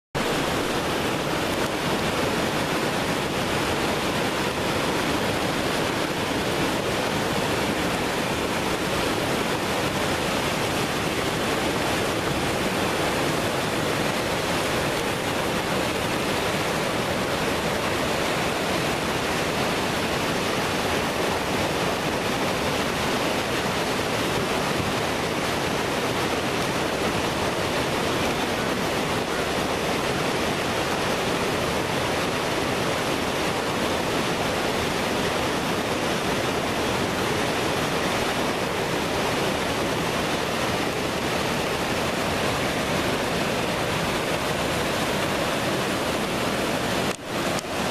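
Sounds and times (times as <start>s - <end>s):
whitewater rushing over rocks: 0.2s - 47.9s.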